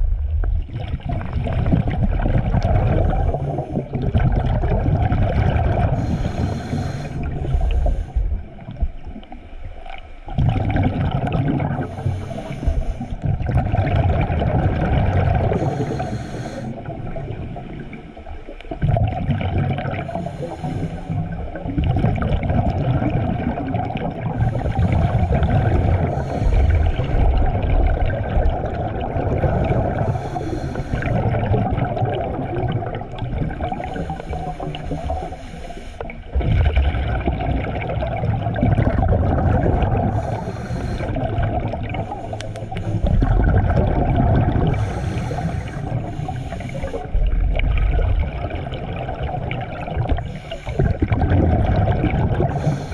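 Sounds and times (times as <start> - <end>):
underwater regulator breathing bubbles: 0.8 - 8.8, 10.4 - 17.1, 18.8 - 52.9.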